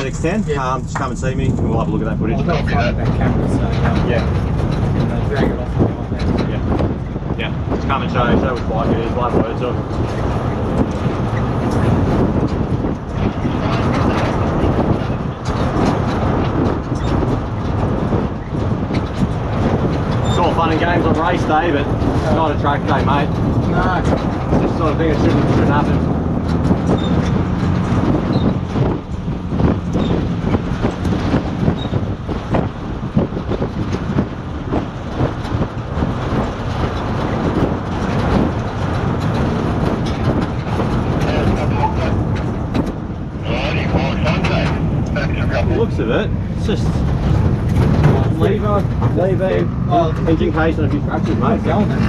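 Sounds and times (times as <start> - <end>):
rattles and clicks: 0.0 - 52.0
vehicle engine rumble: 0.0 - 52.0.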